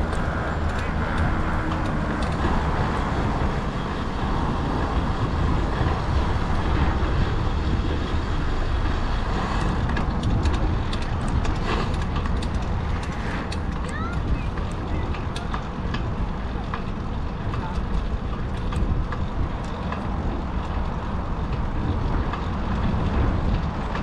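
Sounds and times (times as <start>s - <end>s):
deep rumble: 0.0s - 24.0s
road traffic noise: 0.0s - 24.0s.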